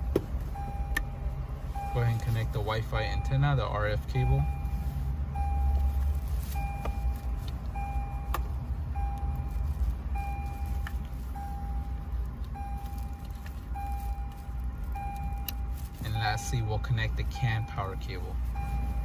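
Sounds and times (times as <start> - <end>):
car warning chime beeping: 0.0 - 19.0
low steady rumble: 0.0 - 19.0.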